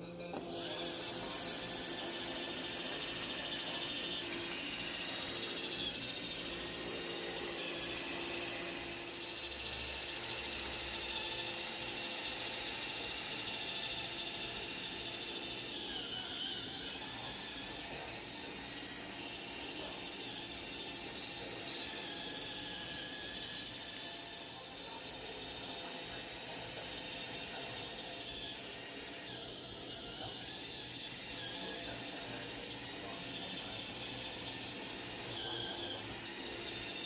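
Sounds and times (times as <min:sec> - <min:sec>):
robot vacuum whirring: 0:00.0 - 0:37.0.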